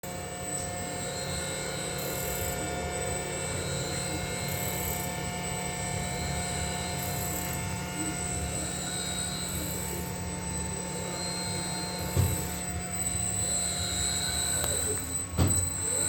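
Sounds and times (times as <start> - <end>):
servo motor humming and whining: 0.0 - 16.0.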